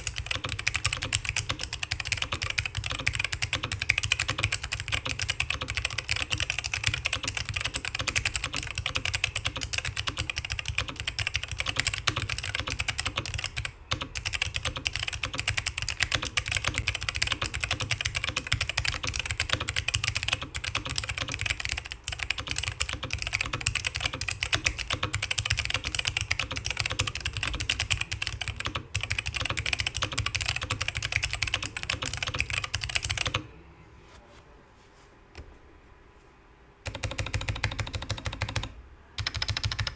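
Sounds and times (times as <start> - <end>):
fast typing on mechanical keyboard: 0.0 - 33.4, 36.8 - 39.9.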